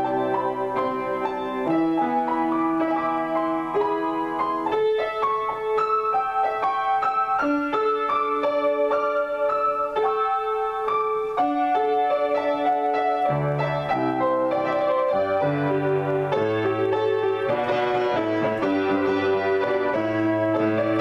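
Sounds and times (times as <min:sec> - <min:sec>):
solo piano: 0:00.0 - 0:21.0.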